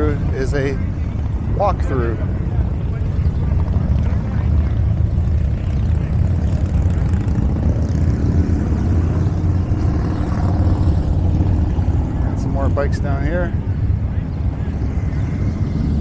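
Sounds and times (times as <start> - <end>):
motorcycle engines running: 0.0 - 16.0.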